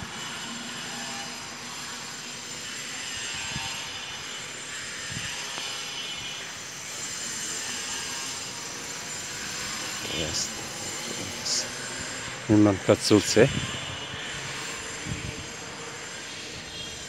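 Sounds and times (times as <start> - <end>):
outdoor hiss and hum: 0.0 - 17.0.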